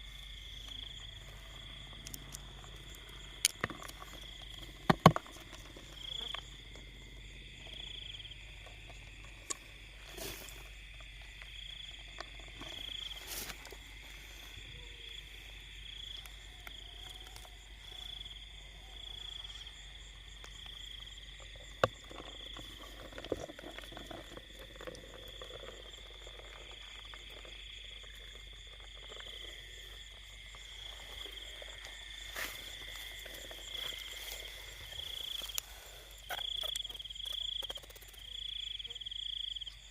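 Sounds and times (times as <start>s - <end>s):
crickets chirping: 0.0s - 39.9s
frogs calling: 0.0s - 39.9s.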